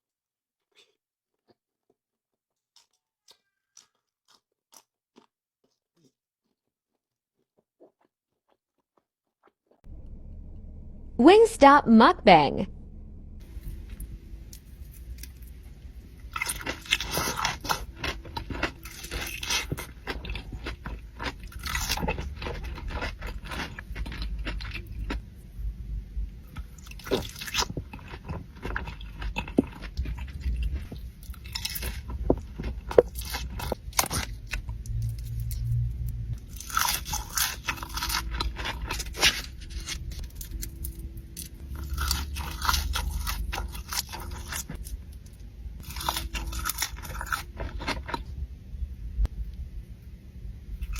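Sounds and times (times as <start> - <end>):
crunching crispy fried chicken: 0.7 - 9.8, 13.4 - 25.6, 26.4 - 48.3.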